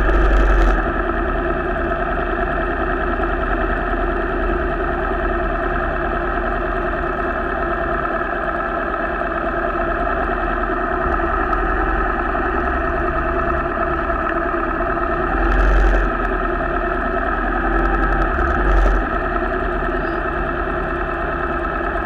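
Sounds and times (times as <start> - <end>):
motorcycle engines idling: 0.0 - 22.0.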